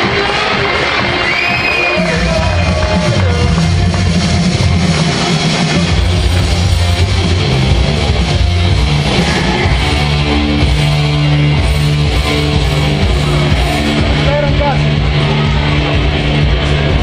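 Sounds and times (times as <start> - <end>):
loud rock music with electric guitar: 0.0 - 17.0.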